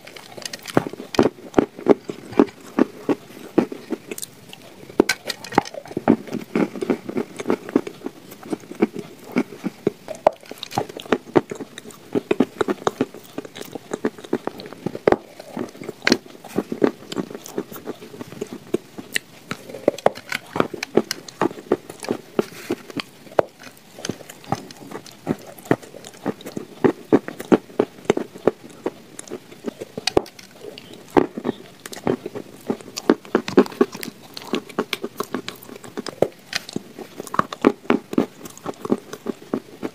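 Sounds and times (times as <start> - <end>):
cookie crunching: 0.0 - 39.9.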